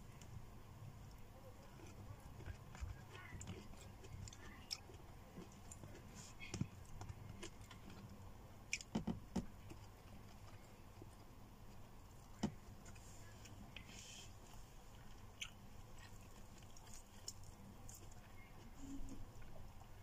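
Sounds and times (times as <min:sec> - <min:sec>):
faint low hum: 0:00.0 - 0:20.0
person chewing food: 0:01.1 - 0:18.4.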